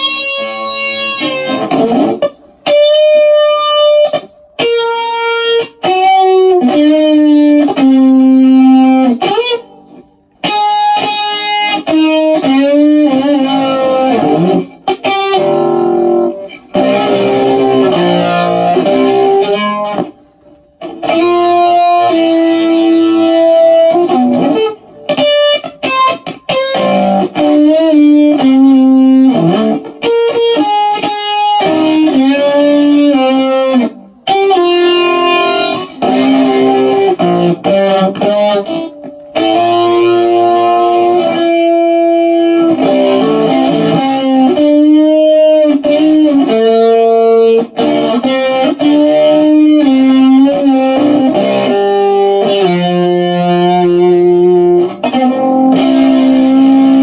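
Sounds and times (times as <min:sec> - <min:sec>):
electric guitar lead line: 0:00.0 - 0:57.0.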